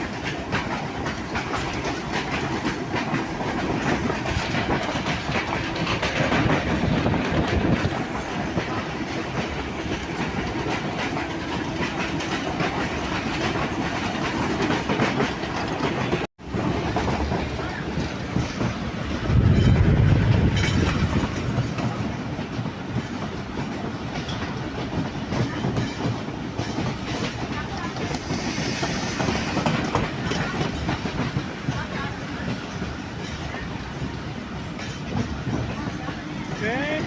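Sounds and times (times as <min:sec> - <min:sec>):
train rumble: 0:00.0 - 0:37.0
wheels clicking over rail joints: 0:00.0 - 0:37.0.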